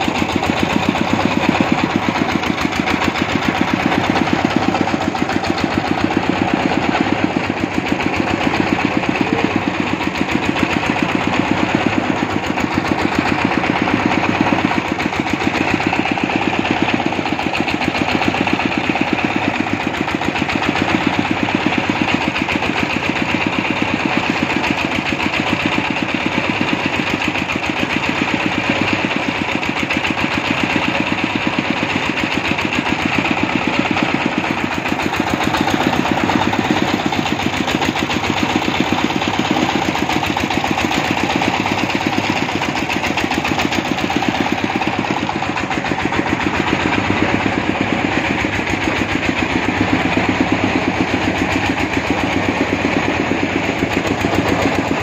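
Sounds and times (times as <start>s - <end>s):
drilling rig engine running: 0.0s - 55.0s.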